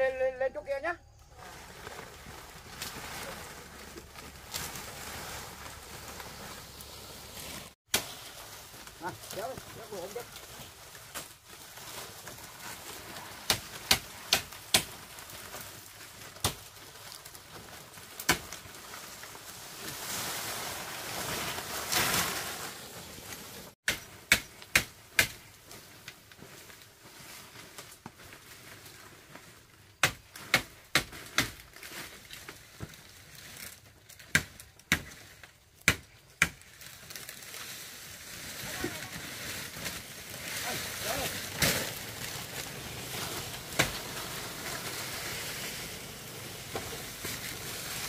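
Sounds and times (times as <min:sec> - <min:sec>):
rustling noise: 0:01.2 - 0:24.3, 0:25.4 - 0:34.3, 0:36.6 - 0:48.0.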